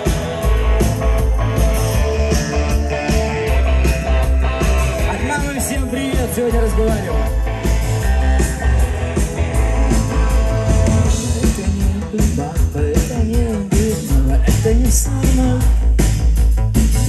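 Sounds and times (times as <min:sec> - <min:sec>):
heavy bass: 0:00.0 - 0:17.0
live rock band playing: 0:00.0 - 0:17.0.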